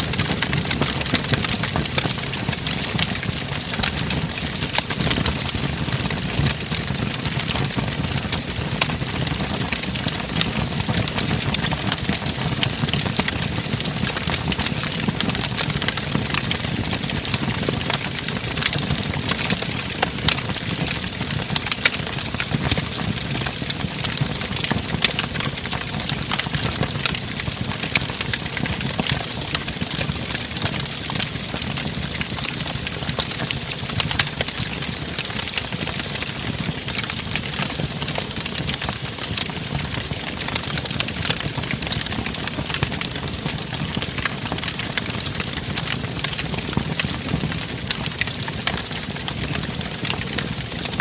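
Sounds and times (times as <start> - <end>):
fire popping and snapping: 0.0 - 51.0
rumble of flames: 0.0 - 51.0.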